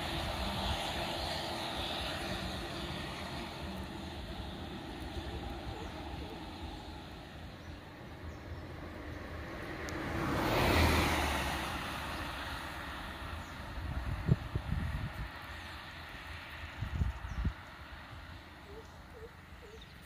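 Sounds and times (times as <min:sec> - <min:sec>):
steady low rumble: 0:00.0 - 0:10.2, 0:11.7 - 0:19.2
vehicle passing by: 0:00.0 - 0:20.0.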